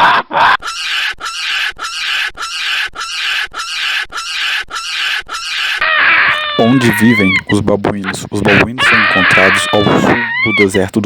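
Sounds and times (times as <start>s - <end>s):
baboon raspy calls: 0.0s - 10.9s.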